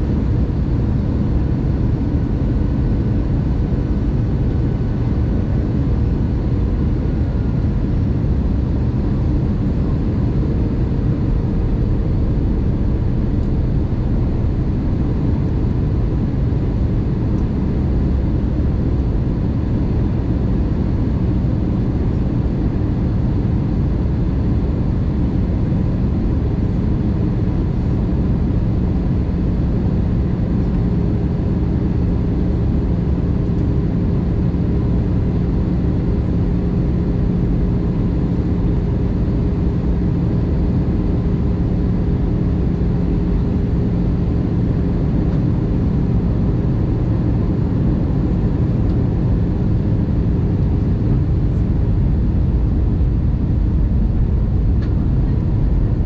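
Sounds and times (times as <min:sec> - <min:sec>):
jet engine rumble: 0:00.0 - 0:56.0
low engine hum: 0:00.0 - 0:56.0
airliner cabin air rush: 0:04.0 - 0:40.9, 0:41.6 - 0:56.0.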